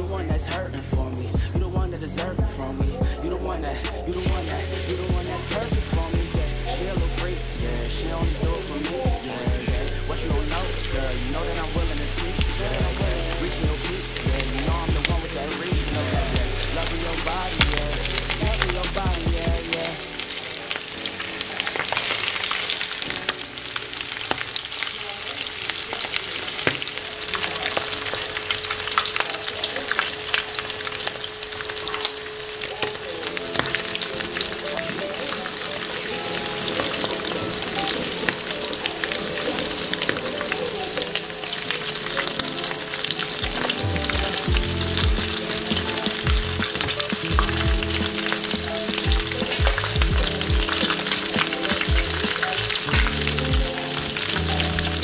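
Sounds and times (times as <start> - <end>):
chicken sizzling in hot oil: 4.1 - 55.0.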